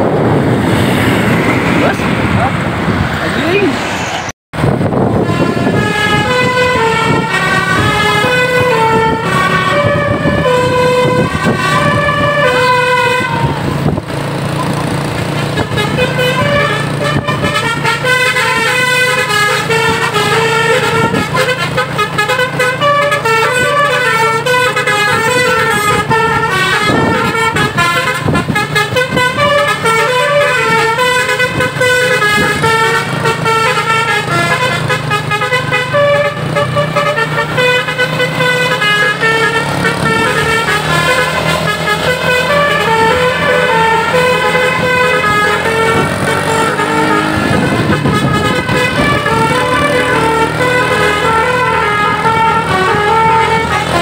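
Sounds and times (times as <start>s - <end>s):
horn-like tones playing a tune: 5.1s - 13.8s, 15.6s - 54.0s.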